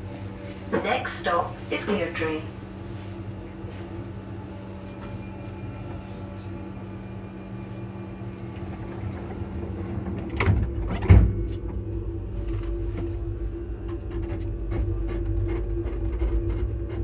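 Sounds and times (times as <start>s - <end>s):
electric train humming: 0.0s - 16.9s.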